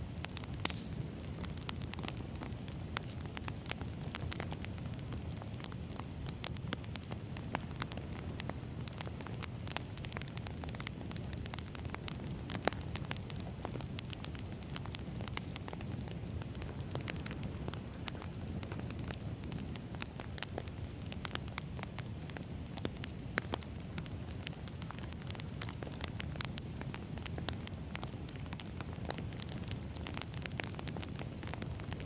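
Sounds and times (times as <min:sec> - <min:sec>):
burning logs crackling and popping: 0:00.0 - 0:32.0
low rumble of fire: 0:00.0 - 0:32.0.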